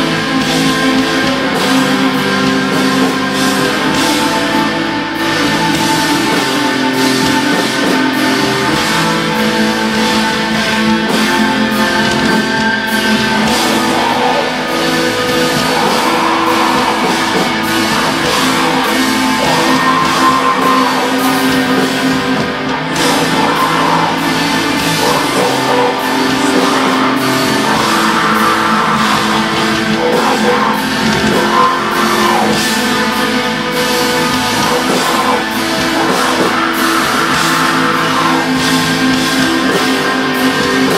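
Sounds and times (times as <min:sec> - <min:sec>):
drum kit: 0:00.0 - 0:40.9
electric guitars holding chords: 0:00.0 - 0:40.9.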